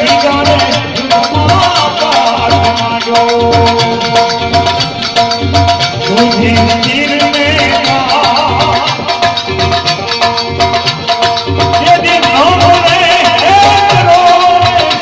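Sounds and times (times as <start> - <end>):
low drum beat: 0.0 - 15.0.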